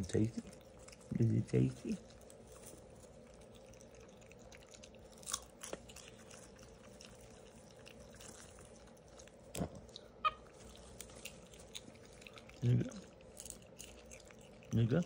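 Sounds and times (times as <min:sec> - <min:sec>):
crunching and chewing popcorn: 0:00.0 - 0:15.0.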